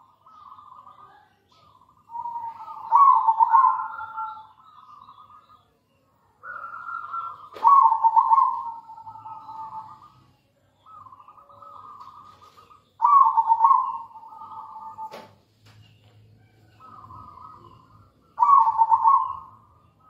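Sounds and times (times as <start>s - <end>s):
dove trilled cooing: 0.0s - 5.6s, 6.4s - 15.4s, 16.6s - 20.0s.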